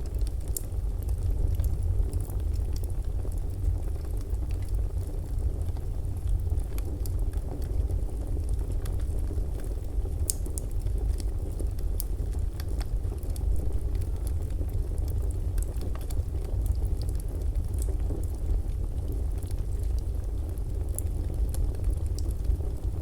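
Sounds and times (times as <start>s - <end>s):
fire pops and crackles: 0.0s - 23.0s
low rumble of fire: 0.0s - 23.0s.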